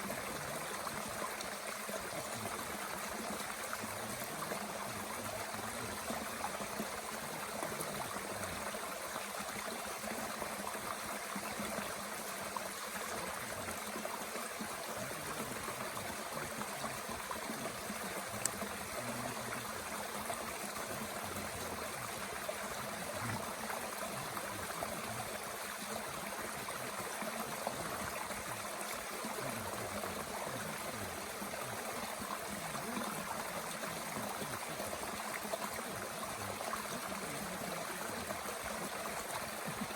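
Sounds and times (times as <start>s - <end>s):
mountain stream running: 0.0s - 39.9s.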